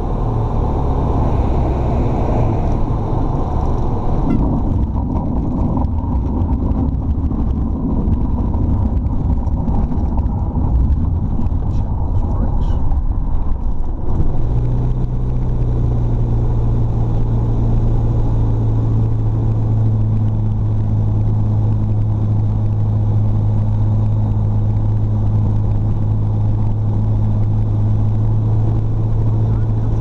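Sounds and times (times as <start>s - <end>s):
aircraft engine running: 0.0s - 30.0s.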